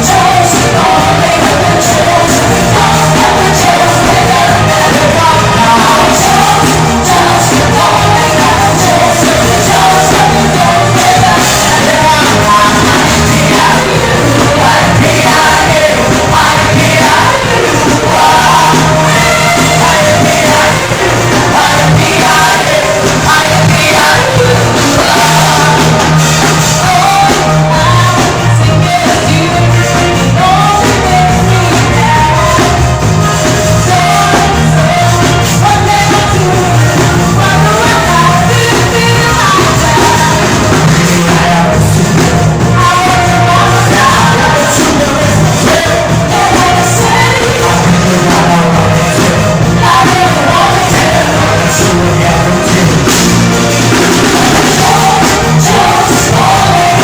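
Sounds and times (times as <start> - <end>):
heavy bass line: 0.0 - 57.0
loud music with singing: 0.0 - 57.0.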